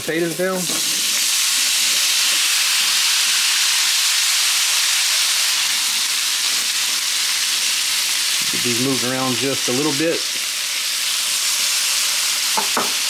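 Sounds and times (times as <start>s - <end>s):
potatoes sizzling in butter: 0.0s - 13.0s.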